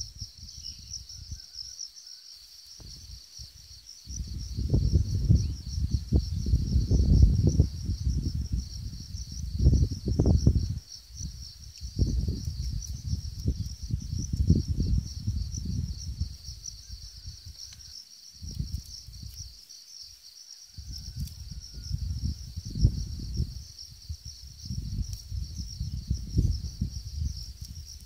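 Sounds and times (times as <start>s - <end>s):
wind gusts on microphone: 0.0s - 1.7s, 2.8s - 19.6s, 20.7s - 28.0s
insects trilling: 0.0s - 28.0s.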